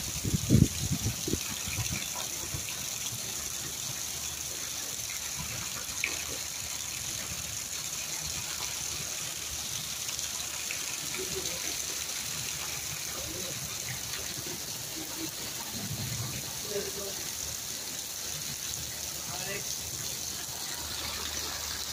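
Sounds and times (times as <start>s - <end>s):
heavy rain on standing water: 0.0s - 21.9s.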